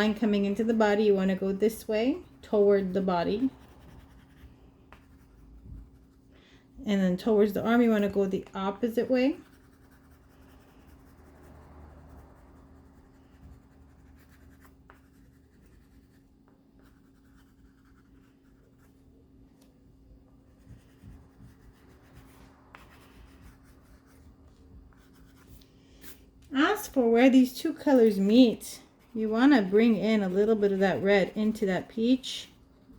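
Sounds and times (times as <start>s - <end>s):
crayon scratching on paper: 0.0s - 6.3s, 7.4s - 19.2s, 20.4s - 32.9s.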